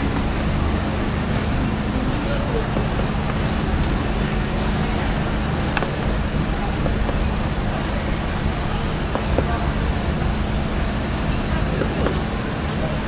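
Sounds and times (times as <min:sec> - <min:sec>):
constant low hum: 0:00.0 - 0:13.0
low background rumble: 0:00.0 - 0:13.0.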